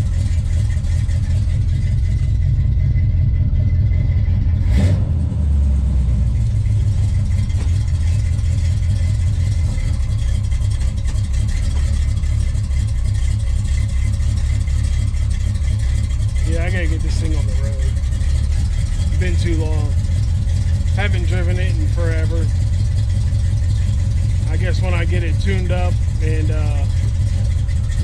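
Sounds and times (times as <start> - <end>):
vcar engine idling: 0.0 - 28.0.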